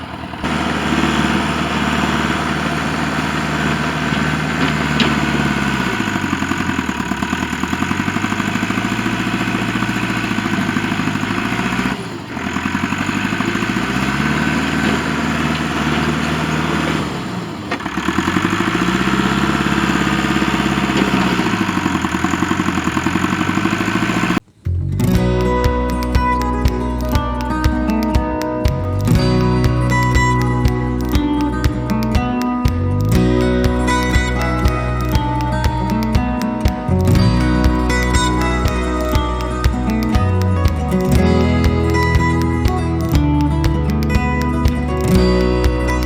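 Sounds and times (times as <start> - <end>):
digging machine engine running: 0.0 - 24.4, 26.9 - 46.0.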